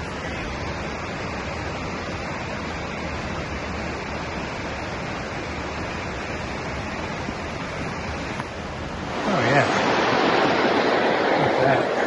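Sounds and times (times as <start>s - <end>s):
creek water over waterfall: 0.0s - 12.0s.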